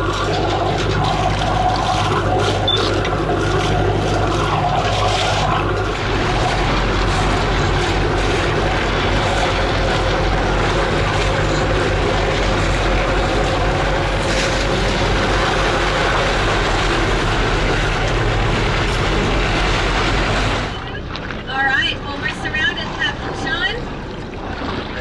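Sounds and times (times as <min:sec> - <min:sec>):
boat engine running: 0:00.0 - 0:25.0
constant rushing noise: 0:00.0 - 0:25.0.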